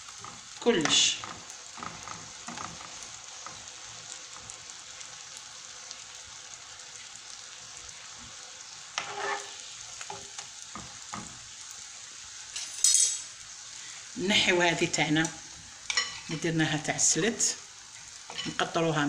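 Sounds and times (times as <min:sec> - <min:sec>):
dough sizzling in hot oil: 0:00.0 - 0:19.0.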